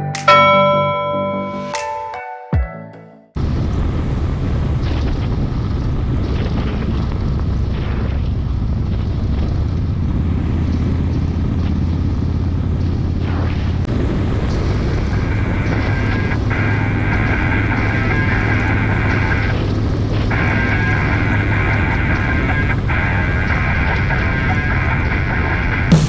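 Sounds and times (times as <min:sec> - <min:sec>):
wind buffeting microphone: 0:03.4 - 0:25.9
motorcycle engine rumbling: 0:03.4 - 0:26.0.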